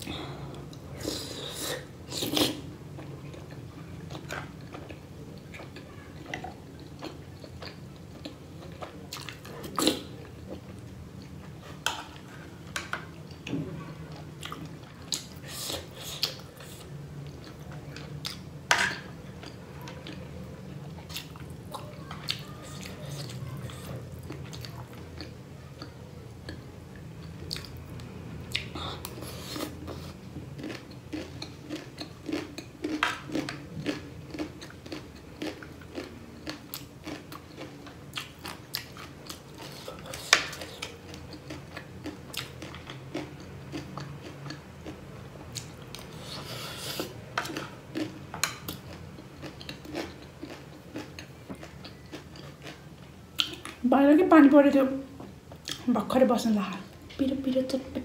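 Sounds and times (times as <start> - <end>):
low steady hum: 0.0 - 58.0
close-miked chewing: 2.1 - 18.5, 19.2 - 53.8, 55.5 - 55.9.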